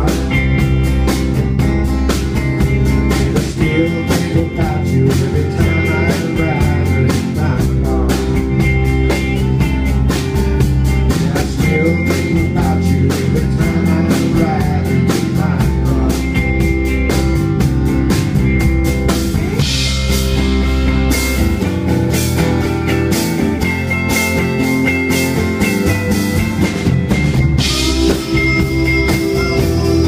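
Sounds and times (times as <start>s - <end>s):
acoustic guitar strumming: 0.0s - 30.0s
drum kit beat: 0.0s - 30.0s.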